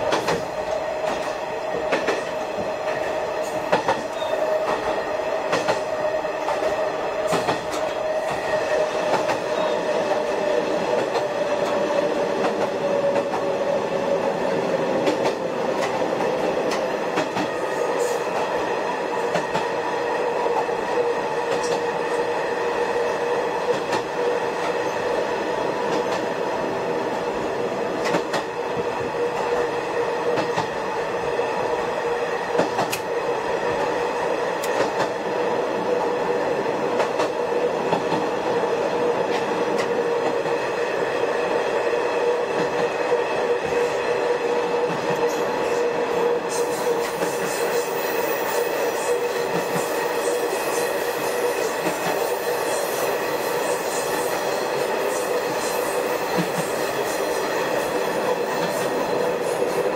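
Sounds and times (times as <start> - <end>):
railcar running noise: 0.0 - 59.9.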